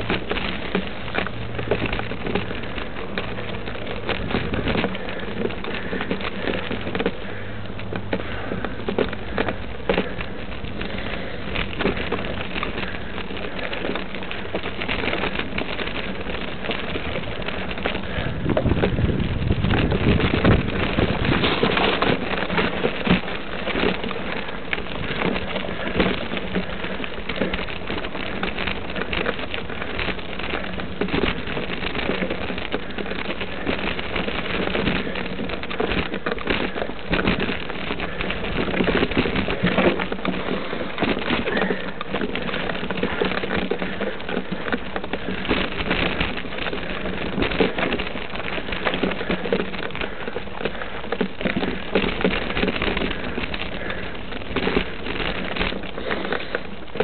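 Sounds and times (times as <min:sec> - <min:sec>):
gravel crunching: 0:00.0 - 0:57.0
microphone rubbing and rattle: 0:00.0 - 0:57.0.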